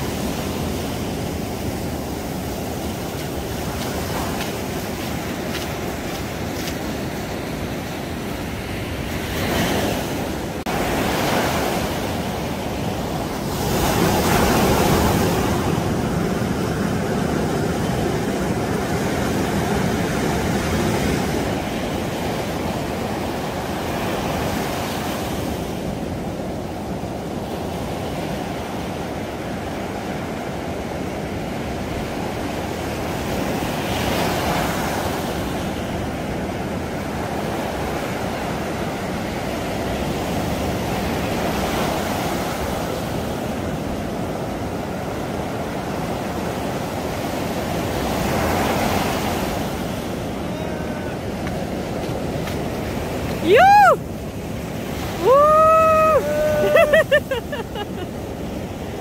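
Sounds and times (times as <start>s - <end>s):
surf breaking on beach: 0.0s - 59.0s.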